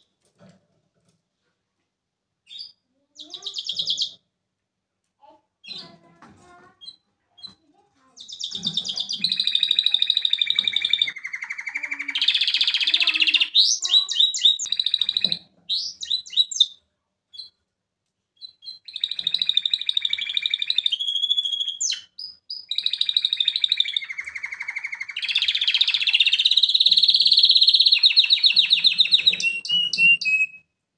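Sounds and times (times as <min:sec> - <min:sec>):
canary singing trills: 0:02.5 - 0:04.2, 0:05.6 - 0:17.6, 0:18.4 - 0:30.7.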